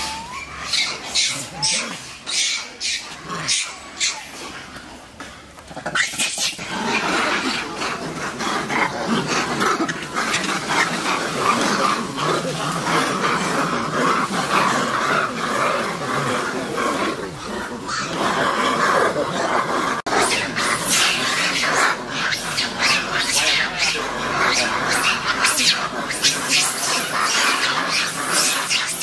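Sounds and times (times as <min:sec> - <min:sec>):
monkeys calling: 0:00.0 - 0:29.0.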